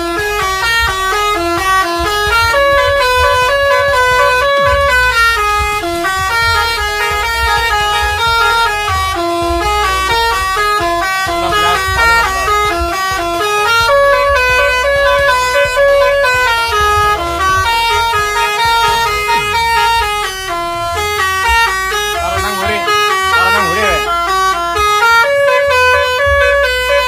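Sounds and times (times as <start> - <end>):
multi-tone bus horn tune: 0.0 - 27.0.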